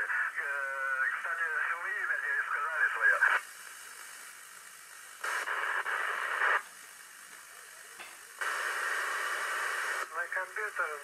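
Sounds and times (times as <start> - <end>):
faint radio hiss: 0.0 - 11.0
louder bursts of radio hiss: 0.0 - 11.0.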